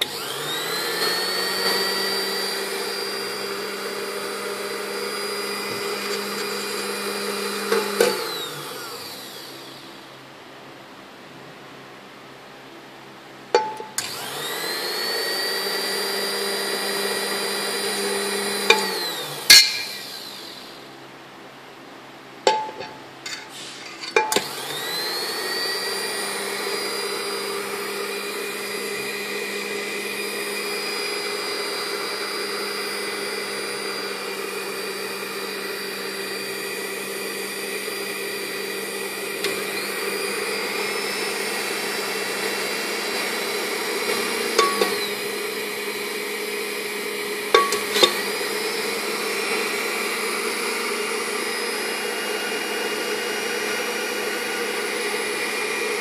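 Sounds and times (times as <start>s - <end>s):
drink mixer motor whine: 0.0s - 10.1s, 14.0s - 21.0s, 24.3s - 56.0s.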